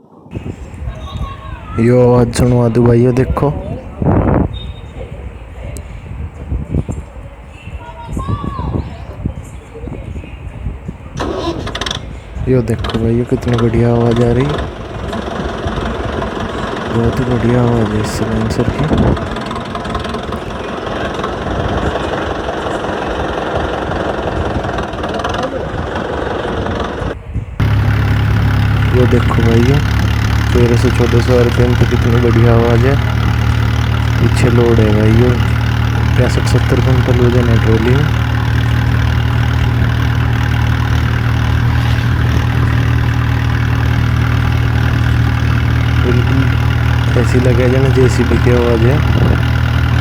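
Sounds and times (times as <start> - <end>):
tractor diesel engine running: 0.3 - 8.4, 10.9 - 50.0.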